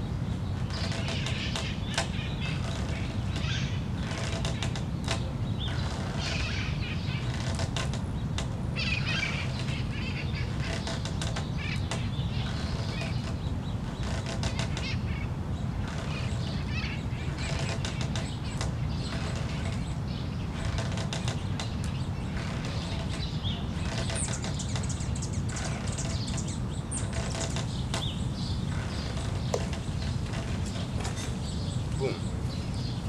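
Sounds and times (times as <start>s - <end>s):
low outdoor rumble: 0.0s - 33.0s.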